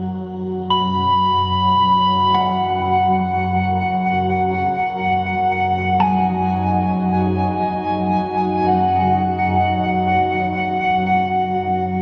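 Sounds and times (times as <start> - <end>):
ambient meditation music: 0.0 - 12.0.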